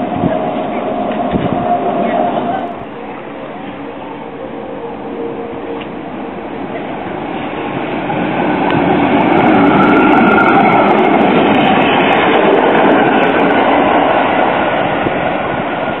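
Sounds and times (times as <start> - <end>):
tram passing on rails: 0.0 - 16.0.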